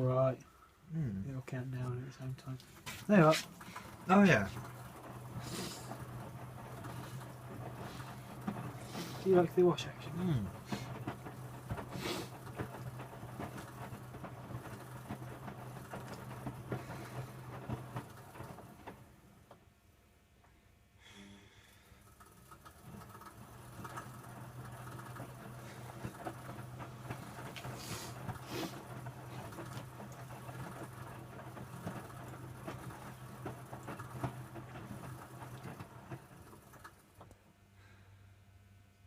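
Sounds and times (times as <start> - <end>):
washing machine motor hum: 0.9 - 19.9, 21.1 - 39.0
wet towels tumbling: 2.5 - 19.3, 22.1 - 37.2.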